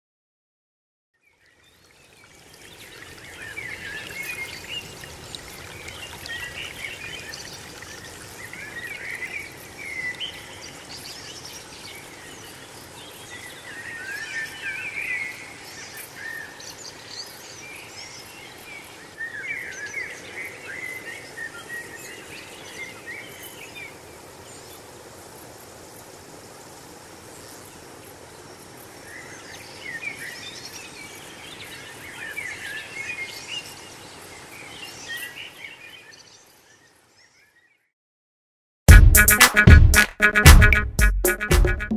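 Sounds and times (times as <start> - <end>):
outdoor background hiss: 1.2 - 37.5.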